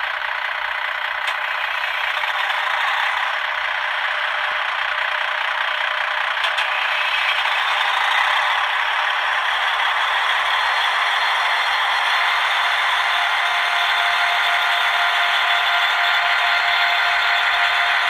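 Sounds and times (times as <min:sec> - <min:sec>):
diesel engine from small loudspeaker: 0:00.0 - 0:18.0.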